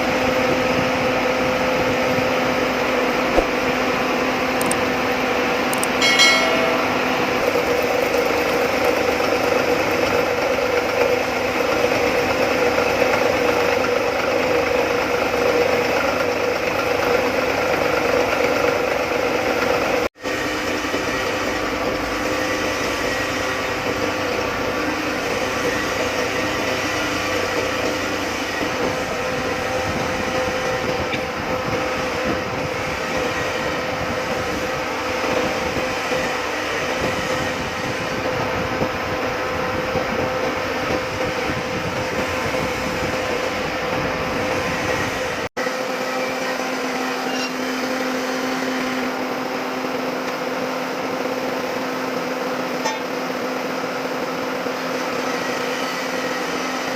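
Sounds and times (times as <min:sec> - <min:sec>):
metalworking machine humming: 0:00.0 - 0:56.9.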